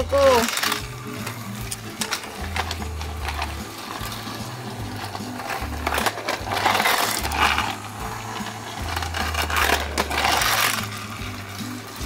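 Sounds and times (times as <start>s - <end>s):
background music: 0.0s - 12.0s
toy train motor whirring: 0.0s - 12.0s
plastic rattling: 0.1s - 12.0s.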